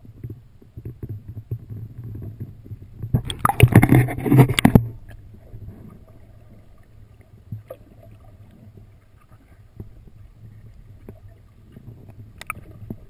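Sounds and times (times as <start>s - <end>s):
underwater low rumble: 0.0s - 13.0s.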